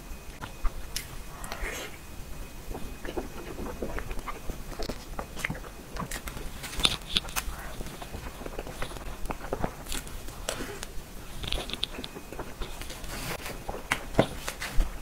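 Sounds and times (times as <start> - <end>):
chewing with wet mouth clicks: 0.3 - 1.9, 2.5 - 14.4.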